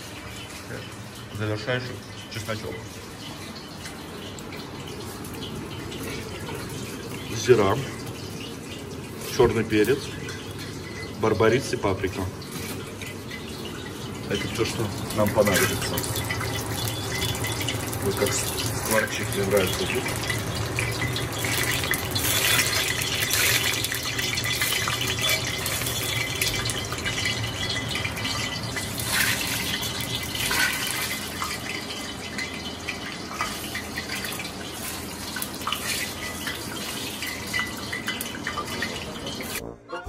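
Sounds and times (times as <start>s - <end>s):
oil sizzling and crackling: 0.0s - 39.6s.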